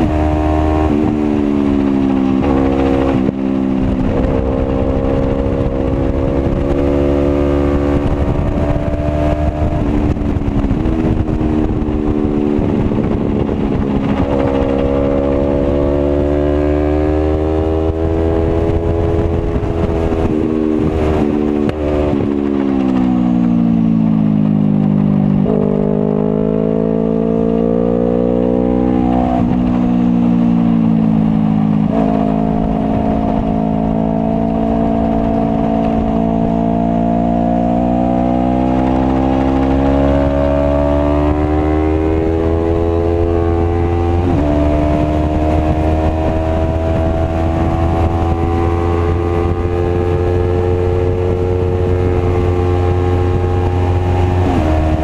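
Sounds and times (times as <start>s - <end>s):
motorcycle engine running hard: 0.0s - 55.0s
wind rumble: 0.0s - 55.0s.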